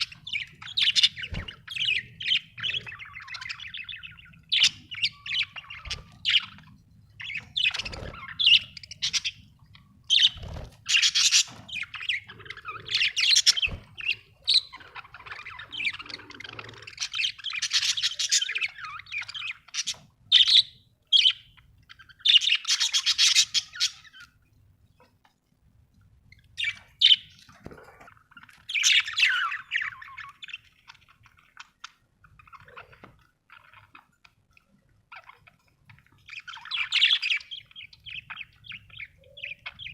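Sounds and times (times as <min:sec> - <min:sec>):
budgerigars chirping and chattering: 0:00.0 - 0:24.4, 0:26.3 - 0:39.9.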